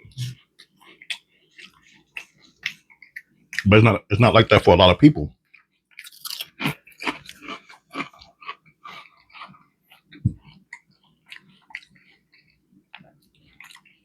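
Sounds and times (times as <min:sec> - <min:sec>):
wet crackly chewing: 0:00.2 - 0:03.7, 0:05.4 - 0:14.0.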